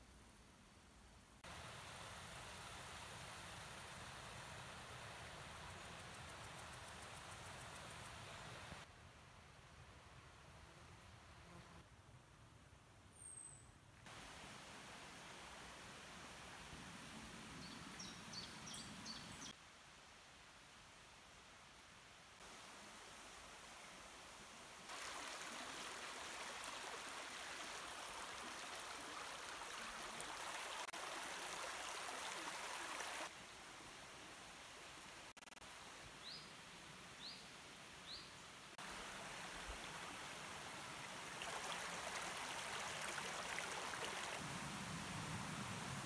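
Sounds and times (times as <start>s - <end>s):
forest stream rushing: 1.4s - 9.0s, 14.0s - 46.0s.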